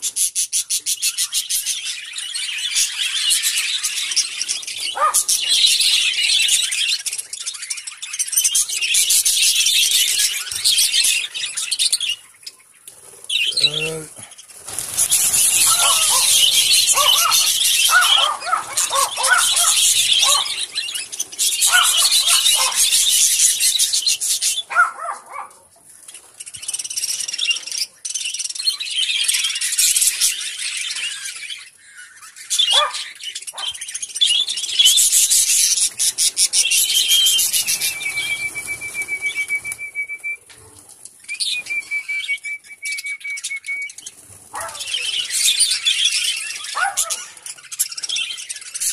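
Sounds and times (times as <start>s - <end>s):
budgerigars chirping and chattering: 0.0s - 39.7s, 40.5s - 48.9s.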